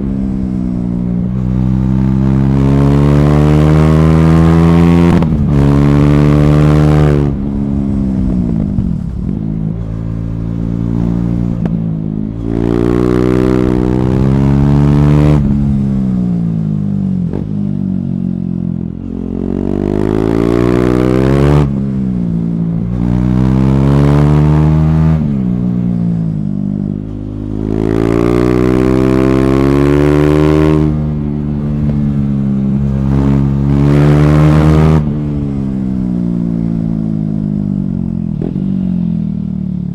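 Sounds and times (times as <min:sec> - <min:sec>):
motorcycle engine revving hard: 0:00.0 - 0:16.6, 0:19.0 - 0:26.2, 0:26.9 - 0:39.9.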